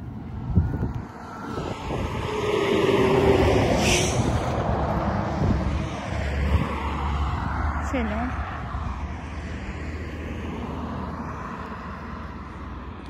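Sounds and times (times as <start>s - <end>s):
wind buffeting microphone: 0.0s - 11.2s
vehicle passing by: 1.0s - 13.0s.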